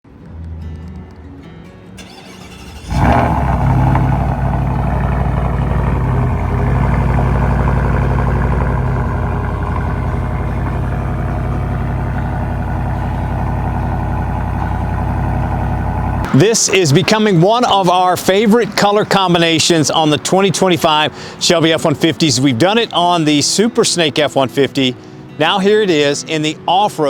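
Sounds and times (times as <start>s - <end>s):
truck engine starting and idling: 1.8s - 27.0s.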